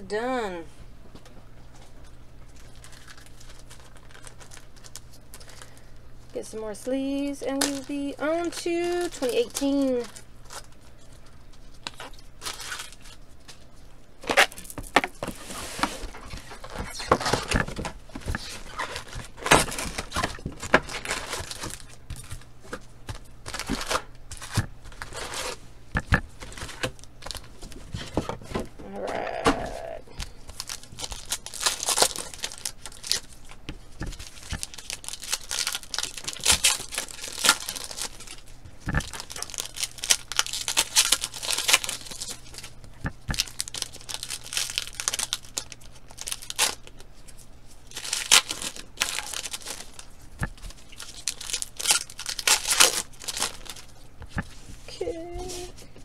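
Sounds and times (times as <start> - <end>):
foil packs crinkling: 2.0 - 56.0.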